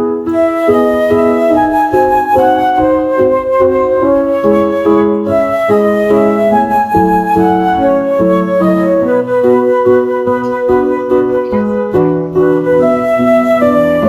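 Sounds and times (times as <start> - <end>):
flute melody: 0.0 - 14.0
soft keyboard chords: 0.0 - 14.0.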